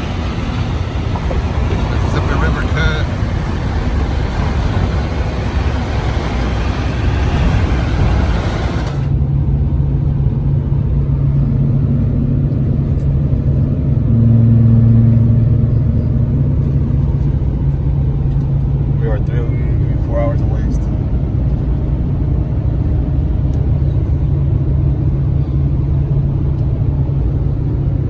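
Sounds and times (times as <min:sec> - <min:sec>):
low engine drone: 0:00.0 - 0:28.0
road and wind noise: 0:00.0 - 0:28.0.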